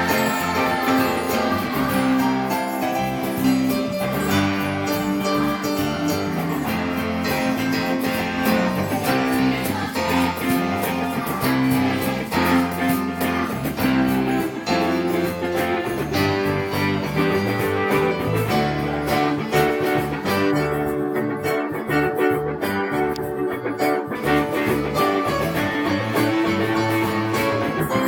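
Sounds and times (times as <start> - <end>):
strummed guitar music: 0.0 - 28.0.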